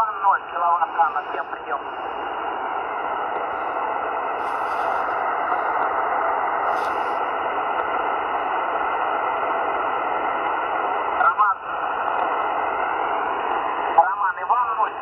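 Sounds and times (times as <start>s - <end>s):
radio static hiss: 0.0s - 8.8s, 11.1s - 15.0s.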